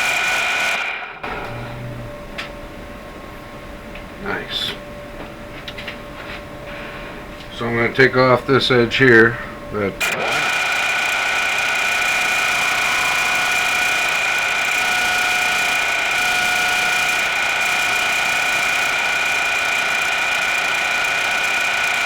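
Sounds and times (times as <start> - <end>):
machine tool whining: 0.0 - 22.0.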